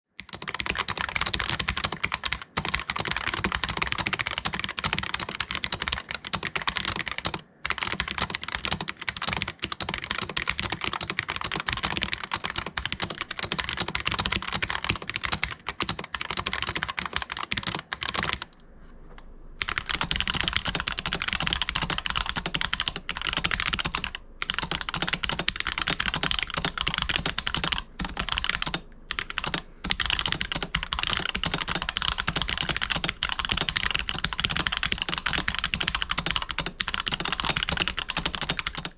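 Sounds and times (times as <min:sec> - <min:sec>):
fast typing on mechanical keyboard: 0:00.2 - 0:18.6, 0:19.6 - 0:38.9.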